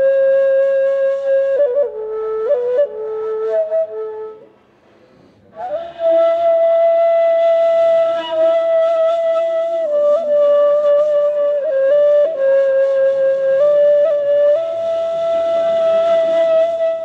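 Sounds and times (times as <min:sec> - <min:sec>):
breathy reed flute melody: 0:00.0 - 0:04.6, 0:05.5 - 0:17.0.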